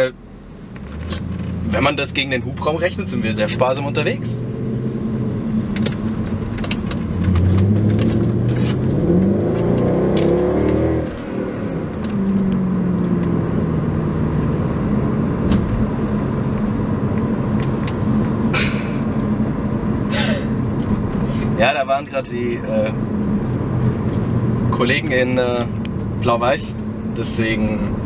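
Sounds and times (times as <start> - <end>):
car engine revving: 0.7 - 28.0.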